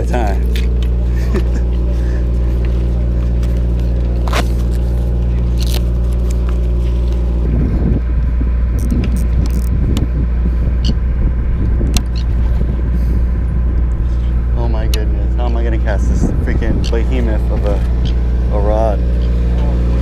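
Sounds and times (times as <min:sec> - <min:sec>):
boat engine humming: 0:00.0 - 0:20.0
rough uneven rumble: 0:00.0 - 0:20.0.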